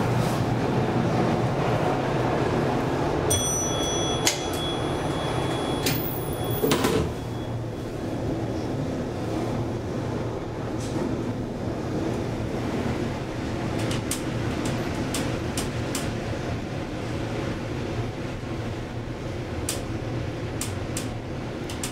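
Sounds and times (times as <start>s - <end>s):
elevator low rumble: 0.0s - 21.9s.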